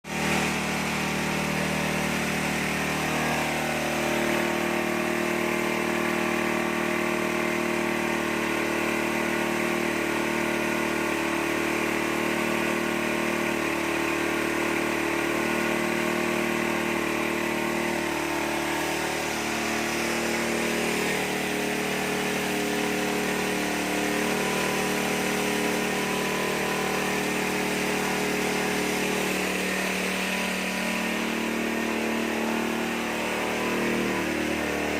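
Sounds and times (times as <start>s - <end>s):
corn-cracking machine motor running: 0.1s - 34.9s.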